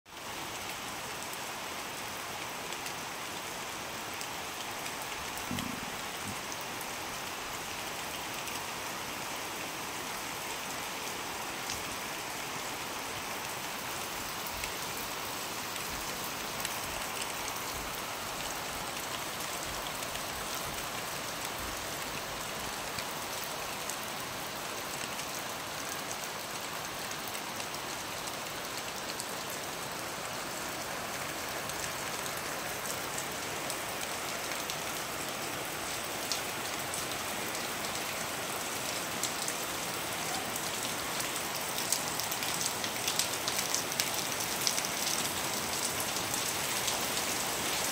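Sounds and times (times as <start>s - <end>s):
heavy rain falling: 0.1s - 47.9s.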